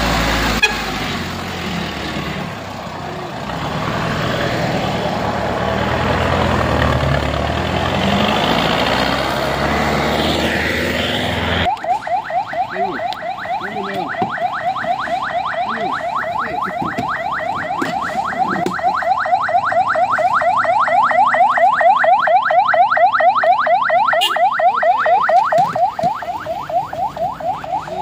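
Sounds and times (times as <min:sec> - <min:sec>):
ambulance siren yelping: 0:04.7 - 0:28.0.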